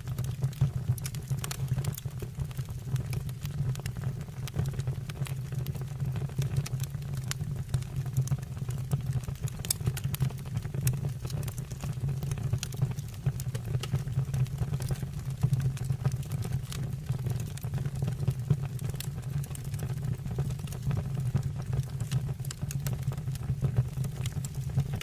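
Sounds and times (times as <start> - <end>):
burning wood crackling and popping: 0.0 - 25.0
low rumble of flames: 0.0 - 25.0.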